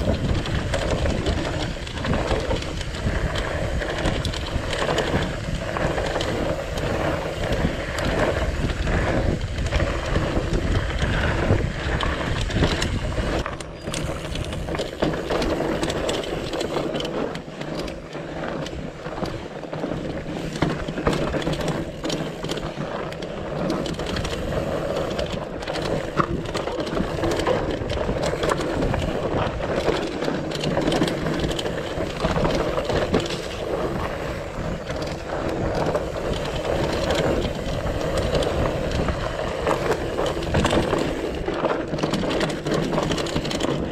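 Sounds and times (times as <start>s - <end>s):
bike rattling and knocking: 0.0s - 43.9s.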